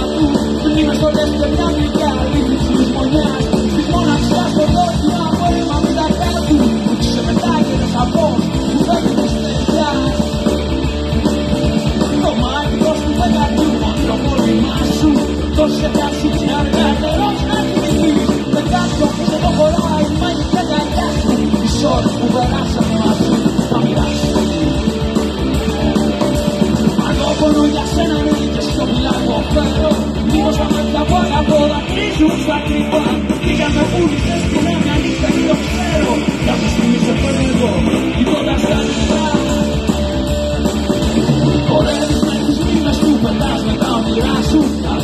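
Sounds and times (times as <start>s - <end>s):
bass guitar: 0.0s - 45.0s
electric guitar: 0.0s - 45.0s
live rock band: 0.0s - 45.0s.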